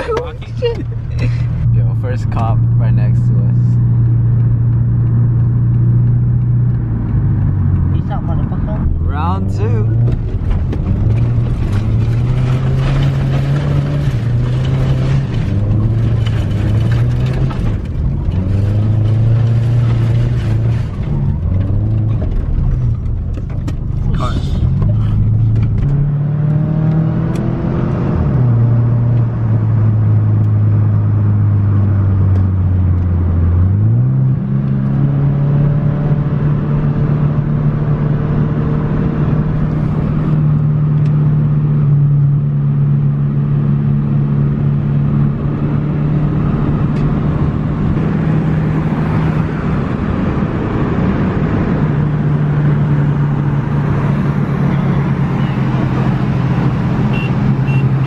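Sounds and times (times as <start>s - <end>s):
car engine without muffler: 0.0s - 58.0s.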